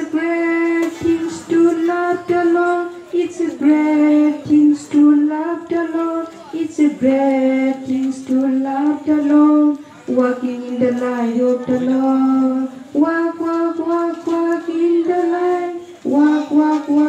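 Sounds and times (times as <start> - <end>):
children and woman singing: 0.0 - 17.0.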